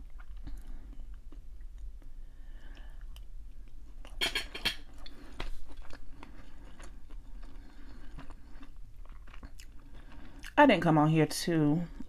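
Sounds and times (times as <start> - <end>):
person chewing food: 0.0 - 10.6.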